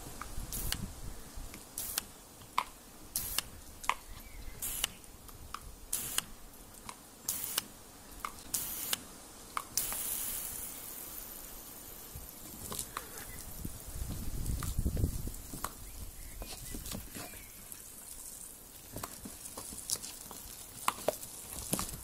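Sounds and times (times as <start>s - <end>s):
sprinkler spray hissing: 0.0s - 22.0s.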